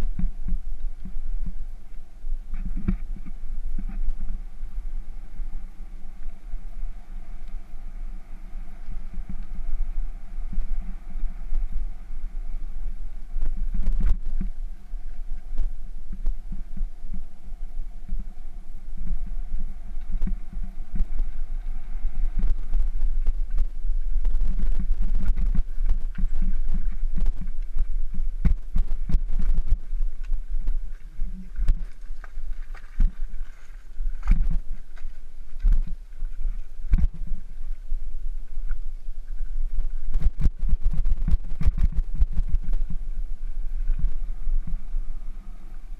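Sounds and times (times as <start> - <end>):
bicycle rolling over gravel: 2.5 - 45.7.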